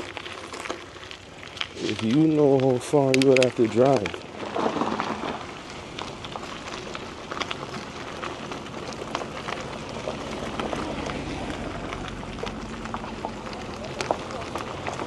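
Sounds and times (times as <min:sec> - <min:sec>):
bike tyres crunching on gravel: 0:00.0 - 0:15.0.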